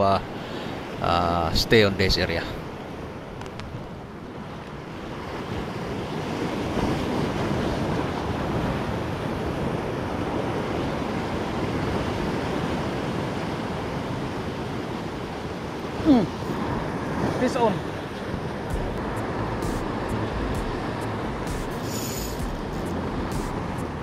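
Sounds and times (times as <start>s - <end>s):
sea surf washing on shore: 0.0s - 24.0s.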